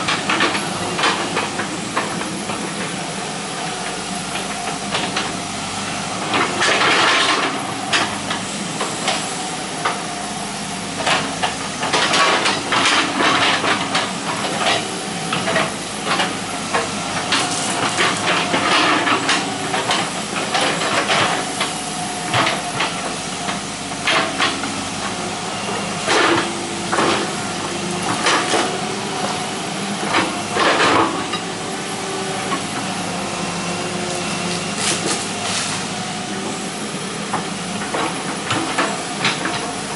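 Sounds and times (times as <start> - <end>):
excavator bucket clanks and scrapes: 0.0 - 3.0, 6.2 - 10.1, 11.0 - 39.9
excavator diesel engine hum: 0.0 - 39.9.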